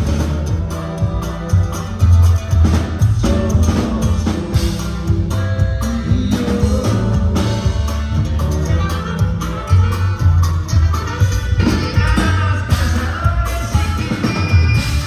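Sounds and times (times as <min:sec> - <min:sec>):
bass: 0:00.0 - 0:15.0
drum kit: 0:00.0 - 0:15.0
guitar: 0:00.0 - 0:15.0.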